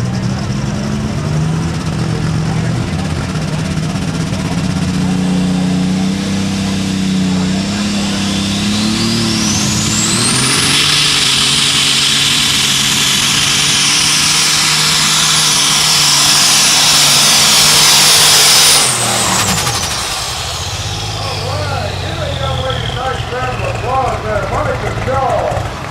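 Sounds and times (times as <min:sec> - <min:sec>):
tractor engine with turbo whine: 0:00.0 - 0:25.9.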